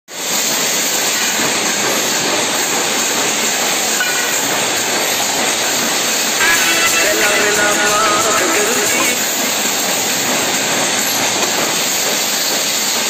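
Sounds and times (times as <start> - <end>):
workshop machinery running: 0.2 - 13.0.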